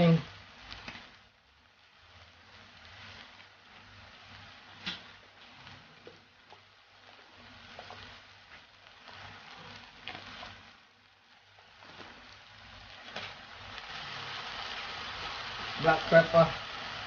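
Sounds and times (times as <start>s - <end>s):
rice sizzling in a pan: 0.0s - 17.0s.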